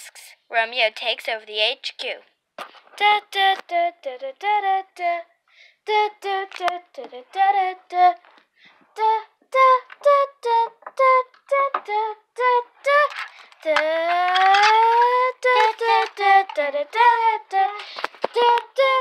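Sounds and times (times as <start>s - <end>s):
child singing: 3.0s - 8.2s, 9.0s - 19.0s.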